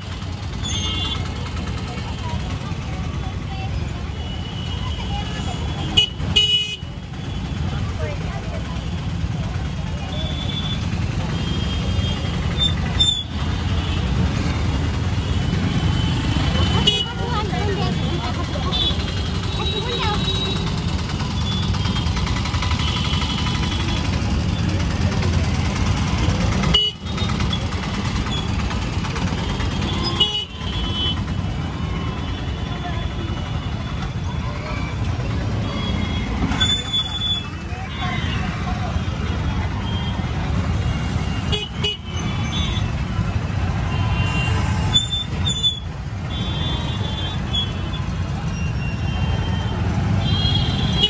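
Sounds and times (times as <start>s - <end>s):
traffic engine rumble: 0.0s - 51.0s.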